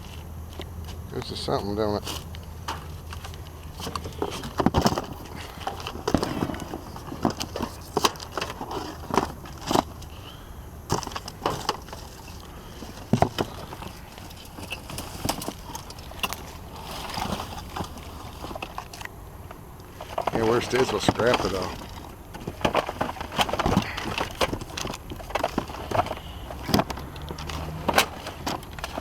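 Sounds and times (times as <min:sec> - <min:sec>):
hard objects knocking and clattering: 0:02.6 - 0:10.0, 0:10.9 - 0:19.1, 0:20.0 - 0:29.0.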